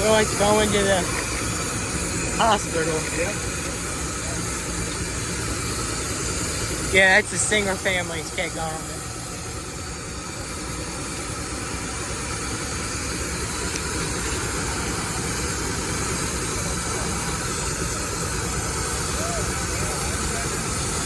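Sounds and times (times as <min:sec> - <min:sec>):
low engine rumble: 0:00.0 - 0:21.0
steam hiss: 0:00.0 - 0:21.0.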